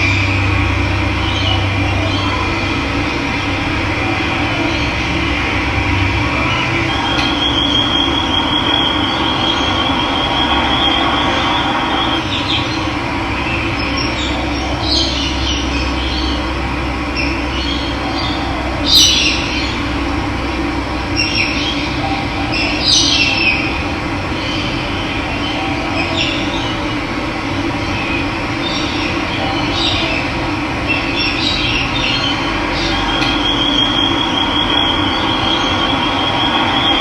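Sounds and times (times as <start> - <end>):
high wavering tone: 0.0 - 23.8, 31.1 - 37.0.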